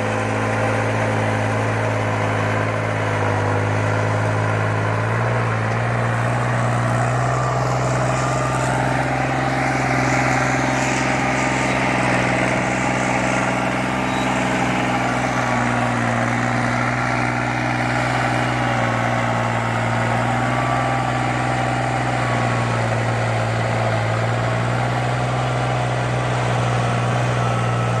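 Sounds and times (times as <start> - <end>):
tractor diesel engine droning: 0.0 - 28.0.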